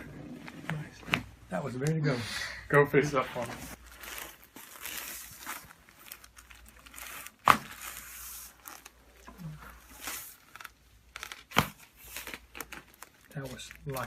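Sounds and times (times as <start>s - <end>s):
rustling and crinkling: 0.0s - 1.9s, 3.0s - 14.0s.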